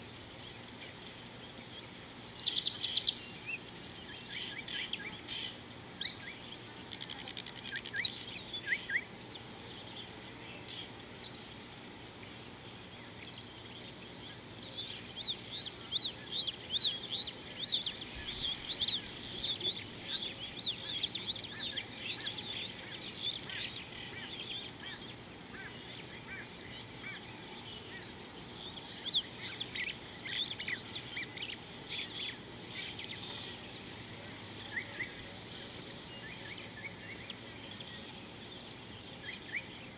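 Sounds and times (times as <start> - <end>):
birds chirping: 0.0 - 39.9
faint background hiss: 0.0 - 39.9.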